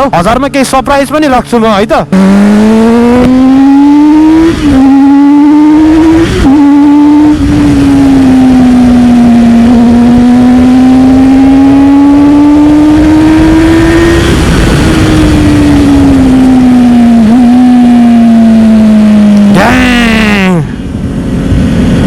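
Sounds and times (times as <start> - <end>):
motorcycle engine: 2.0 - 22.0
wind on microphone: 2.9 - 18.7, 19.4 - 22.0.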